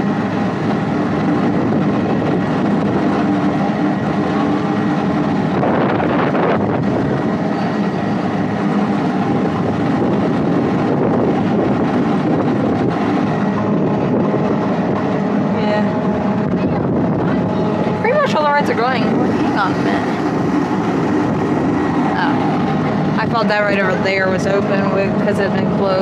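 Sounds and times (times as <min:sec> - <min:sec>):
ride machinery humming: 0:00.0 - 0:26.0.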